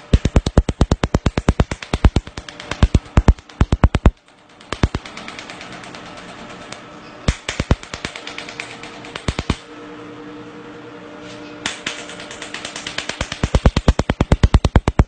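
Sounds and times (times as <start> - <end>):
laser pulses snapping: 0.0 - 9.6, 11.7 - 15.0.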